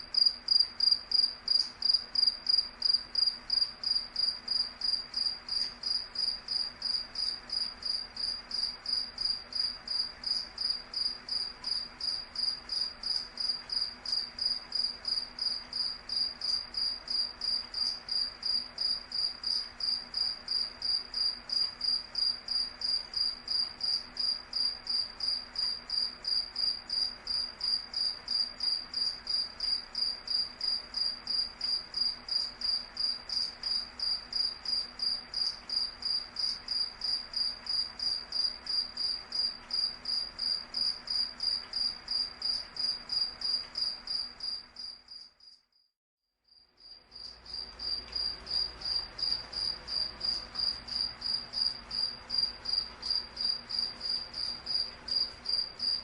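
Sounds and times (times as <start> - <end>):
cricket chirping: 0.0 - 45.9, 46.5 - 56.0.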